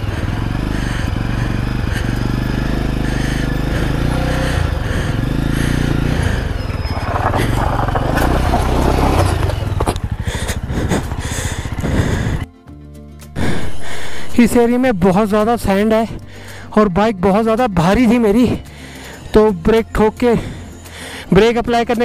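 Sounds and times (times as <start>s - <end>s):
motorcycle engine running: 0.0s - 12.5s, 13.4s - 22.0s.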